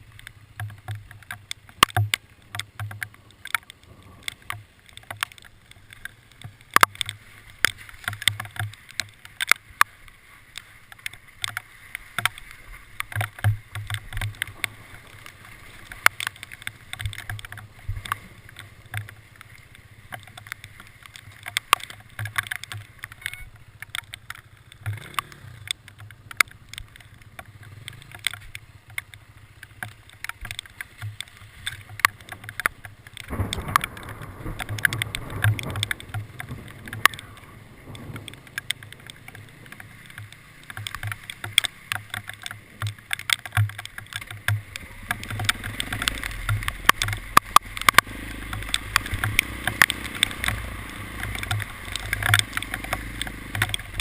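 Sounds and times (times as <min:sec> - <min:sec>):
vehicle rumble: 0:00.0 - 0:54.0
hail hitting vehicle body: 0:00.2 - 0:54.0.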